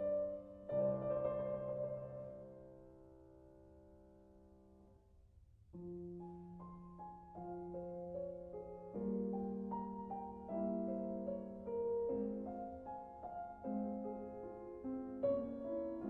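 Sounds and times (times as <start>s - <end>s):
slow calm piano music: 0.0s - 5.0s, 5.7s - 16.0s.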